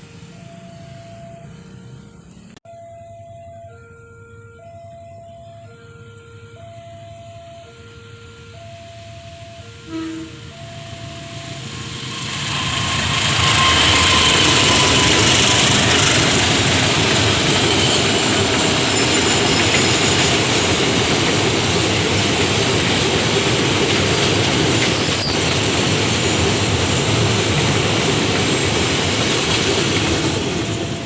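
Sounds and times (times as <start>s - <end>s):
train passing at speed: 0.0s - 2.6s, 6.7s - 31.0s.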